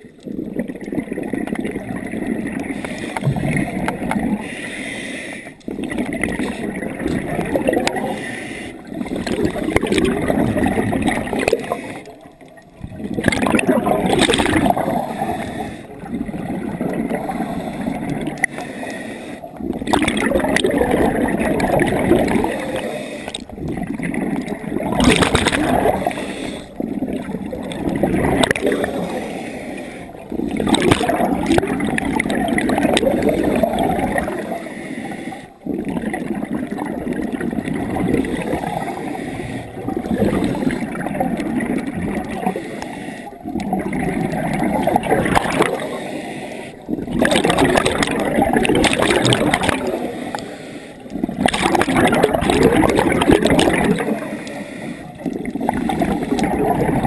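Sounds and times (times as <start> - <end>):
underwater bubbles gurgling: 0.0 - 57.0.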